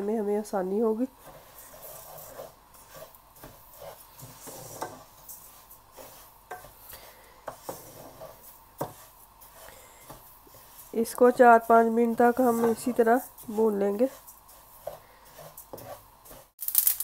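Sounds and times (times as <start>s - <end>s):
spatula scraping seeds in a pan: 0.7s - 17.0s.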